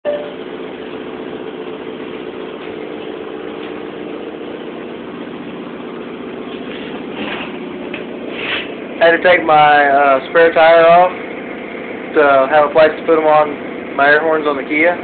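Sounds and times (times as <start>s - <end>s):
motor running steadily: 0.0s - 15.0s.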